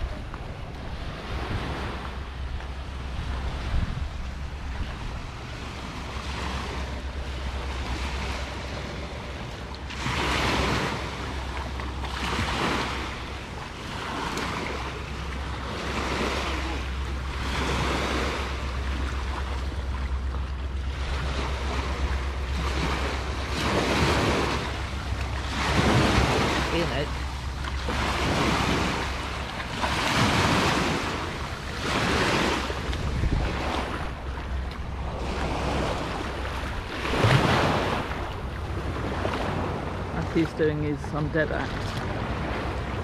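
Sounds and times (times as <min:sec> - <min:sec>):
waves washing on sandy shore: 0:00.0 - 0:43.0
wind rumble on microphone: 0:00.0 - 0:43.0.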